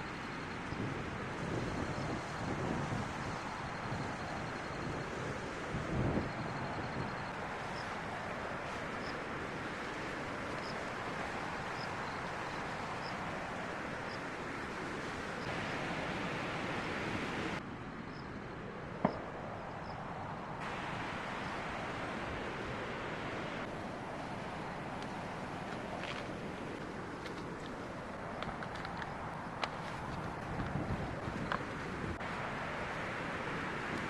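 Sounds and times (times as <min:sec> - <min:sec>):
strong wind blowing: 0:00.0 - 0:34.0.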